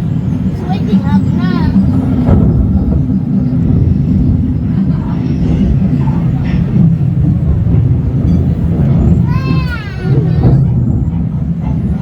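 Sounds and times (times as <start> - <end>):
low rumbling sound effect: 0.0 - 12.0.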